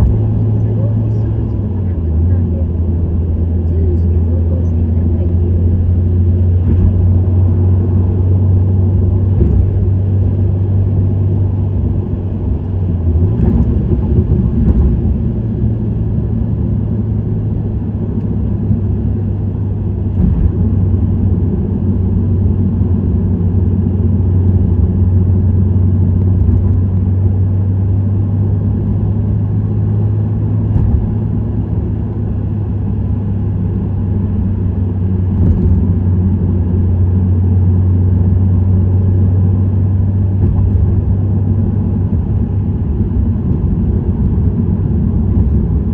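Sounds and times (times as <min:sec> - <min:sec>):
car exhaust and engine drone: 0:00.0 - 0:45.9
road noise: 0:00.0 - 0:45.9.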